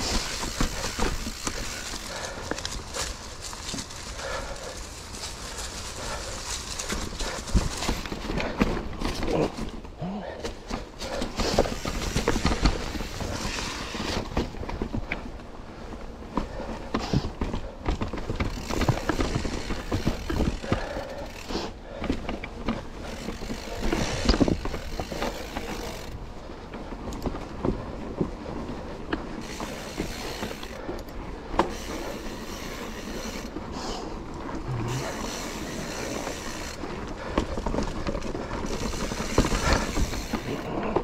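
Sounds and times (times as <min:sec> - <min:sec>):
bike rattling: 0:00.0 - 0:41.0
bike tyres crunching over stones: 0:00.0 - 0:41.0.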